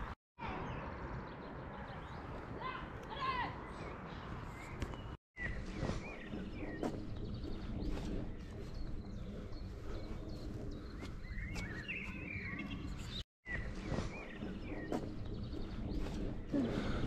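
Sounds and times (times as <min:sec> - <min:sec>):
small birds chirping: 0:00.4 - 0:17.0.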